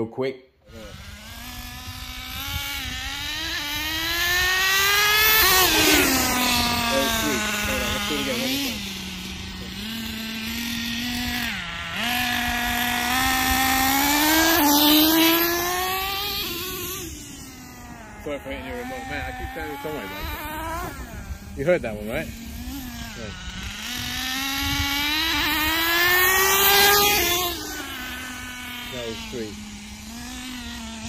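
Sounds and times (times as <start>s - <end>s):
model truck engine revving: 0.7s - 31.0s.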